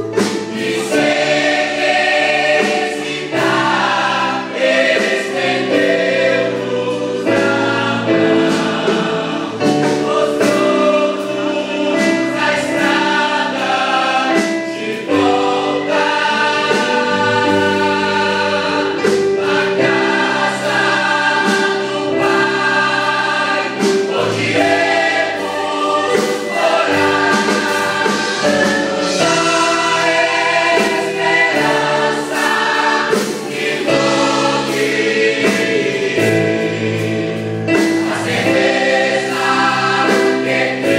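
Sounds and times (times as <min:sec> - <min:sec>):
musical accompaniment: 0:00.0 - 0:40.9
youth choir singing a hymn: 0:00.0 - 0:40.9.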